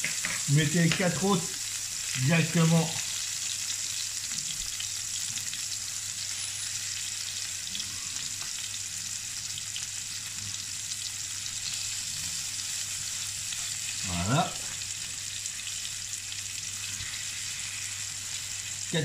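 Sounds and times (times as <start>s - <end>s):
burger patties sizzling in a pan: 0.0s - 19.0s.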